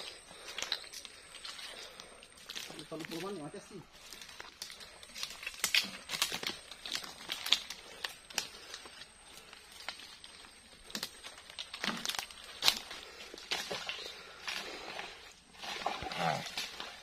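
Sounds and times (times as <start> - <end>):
branches and leaves brushing: 0.0 - 17.0
footsteps crunching through dry leaves: 0.0 - 17.0.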